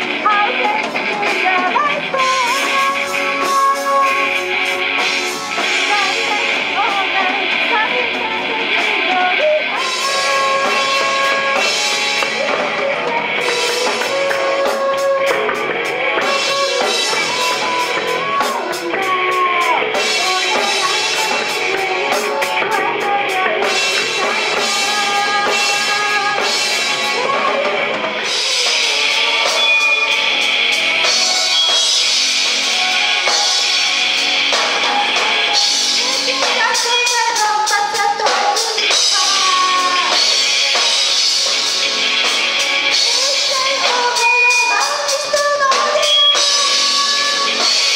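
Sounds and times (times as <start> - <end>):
bass guitar: 0.0 - 47.9
drum kit with cymbals: 0.0 - 47.9
electric guitar: 0.0 - 47.9.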